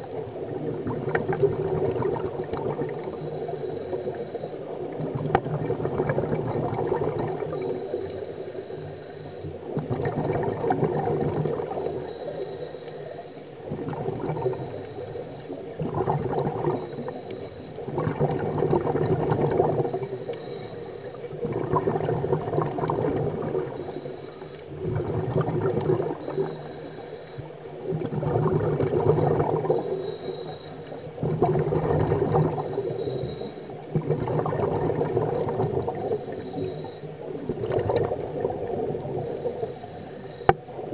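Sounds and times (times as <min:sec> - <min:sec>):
underwater bubbles gurgling: 0:00.0 - 0:40.9
faint high hiss: 0:01.6 - 0:05.5, 0:06.2 - 0:40.9.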